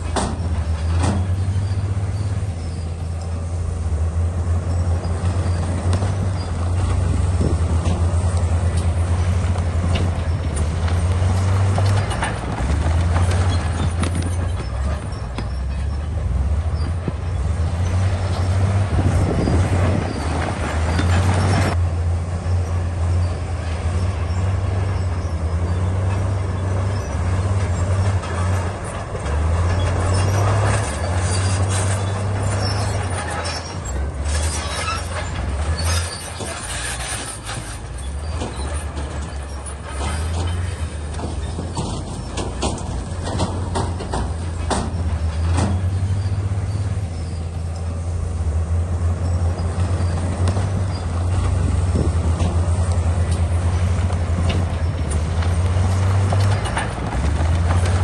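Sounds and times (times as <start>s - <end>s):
tracks and blade rattling: 0.0s - 21.8s, 23.2s - 58.0s
bulldozer diesel engine drone: 0.0s - 58.0s.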